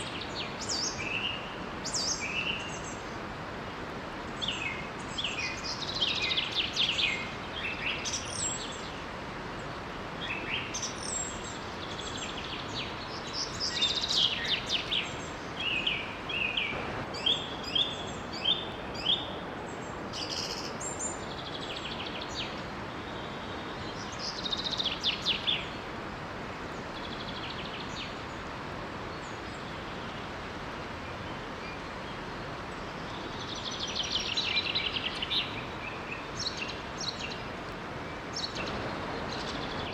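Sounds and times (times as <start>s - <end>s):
songbirds chirping and trilling: 0.0s - 39.9s
waterfall rushing: 0.0s - 39.9s.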